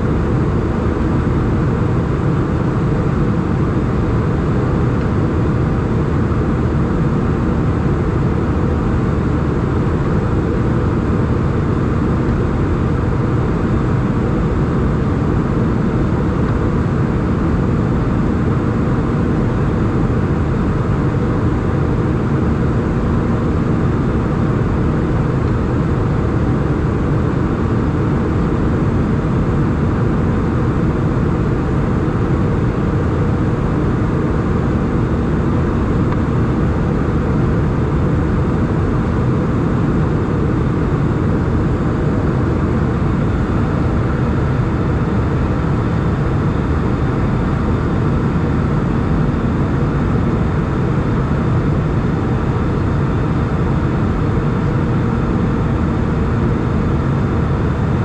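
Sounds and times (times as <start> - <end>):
faint steady hum: 0.0 - 58.0
jet engines and airflow rumble: 0.0 - 58.0.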